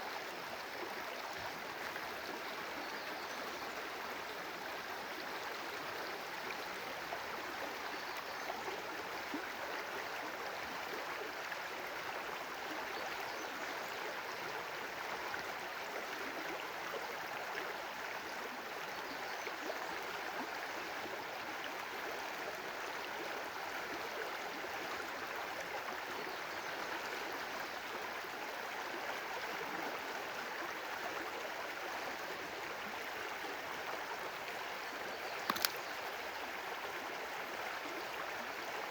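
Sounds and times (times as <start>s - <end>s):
stream flowing and splashing: 0.0s - 38.9s.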